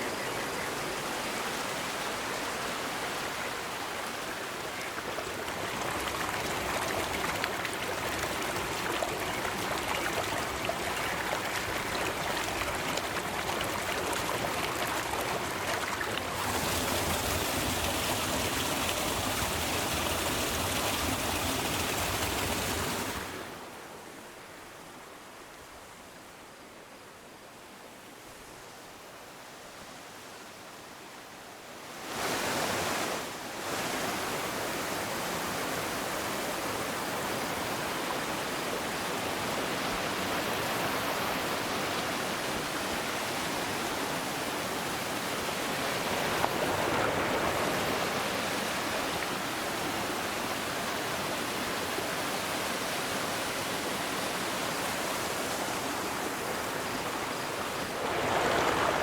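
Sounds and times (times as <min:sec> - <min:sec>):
river water rushing: 0:00.0 - 0:24.0, 0:31.9 - 0:59.0.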